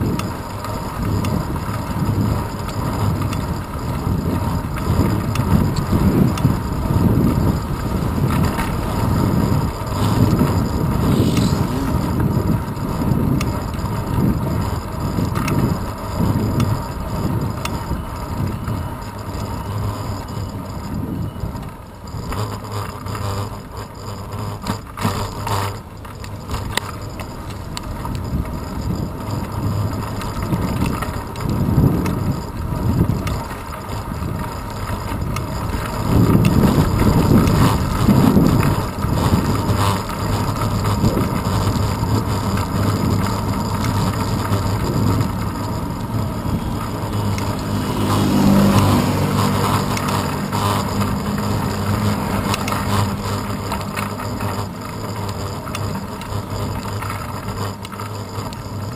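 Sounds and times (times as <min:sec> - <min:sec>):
road rumble: 0:00.0 - 0:58.9
low pitched hum: 0:00.1 - 0:33.2, 0:34.1 - 0:58.9.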